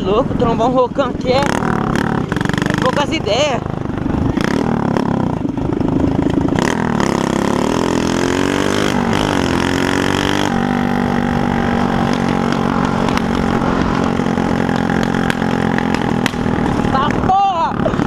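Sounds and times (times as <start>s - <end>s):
motorcycle engine with broken exhaust: 0.0s - 18.0s.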